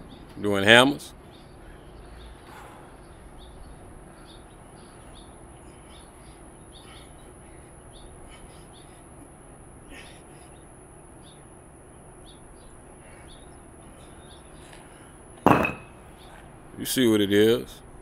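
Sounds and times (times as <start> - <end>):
birds chirping: 0.0 - 17.6
faint background hum: 0.0 - 18.0.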